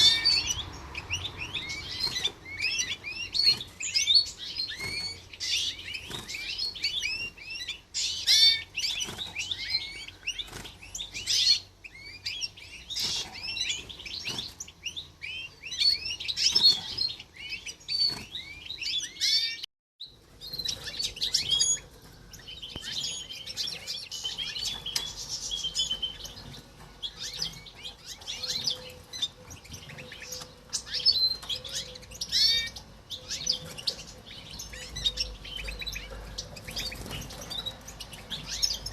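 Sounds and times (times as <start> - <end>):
caged birds chirping and twittering: 0.0 - 38.9.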